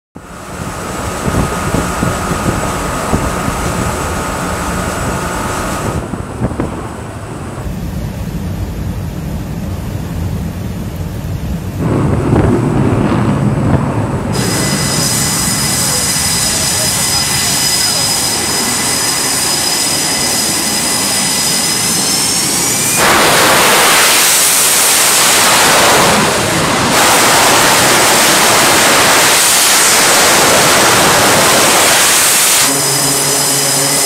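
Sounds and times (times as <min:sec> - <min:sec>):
engines rumbling: 0:00.2 - 0:34.0
high steady whine: 0:00.2 - 0:34.0
wind rumbling: 0:00.2 - 0:34.0.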